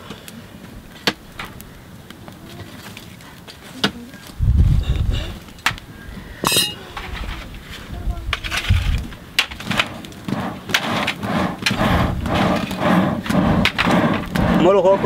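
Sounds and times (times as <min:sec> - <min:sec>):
charcoal fire crackling and popping: 0:00.0 - 0:15.0.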